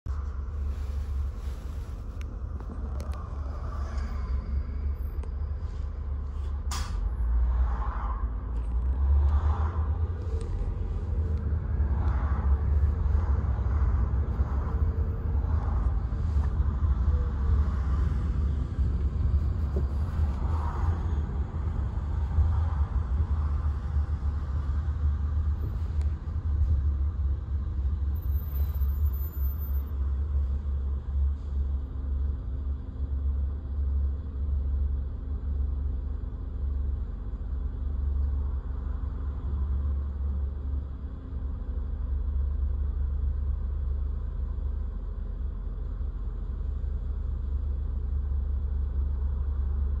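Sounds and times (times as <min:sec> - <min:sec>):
car interior road rumble: 0:00.0 - 0:50.0.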